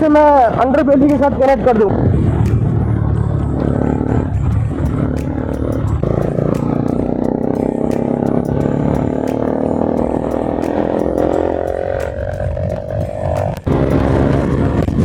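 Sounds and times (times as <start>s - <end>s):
wind buffeting microphone: 0.0s - 15.0s
motorcycle engine pulling under load: 1.7s - 15.0s.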